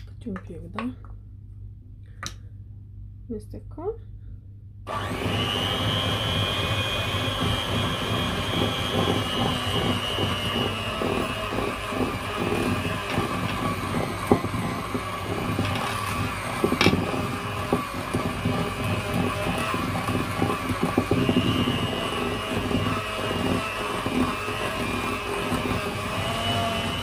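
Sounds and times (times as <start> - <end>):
electric hand mixer whirring: 4.9 - 27.0.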